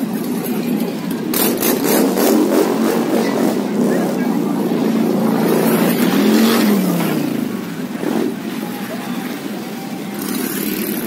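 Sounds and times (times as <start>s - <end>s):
motorcycle engine: 0.0s - 11.0s
road noise: 0.0s - 11.0s.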